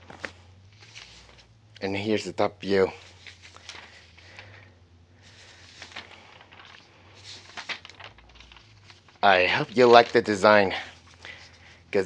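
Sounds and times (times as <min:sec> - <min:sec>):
paper sheets rustling: 0:00.0 - 0:02.1, 0:02.7 - 0:12.0.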